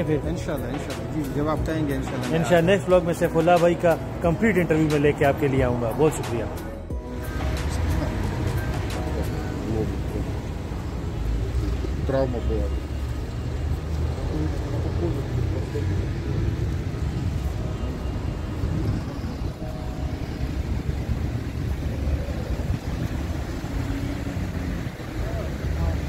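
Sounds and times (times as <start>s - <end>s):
cars passing: 0.0s - 26.0s.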